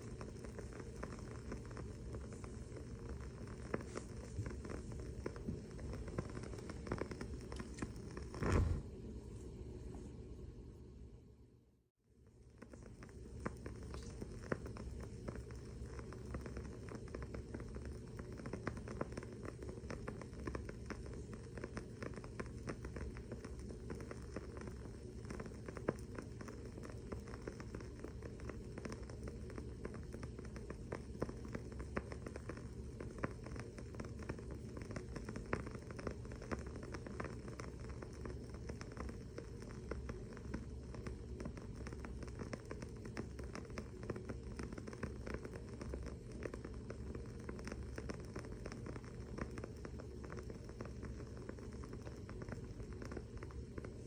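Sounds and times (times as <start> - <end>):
candle crackling: 0.0 - 10.2, 12.2 - 54.0.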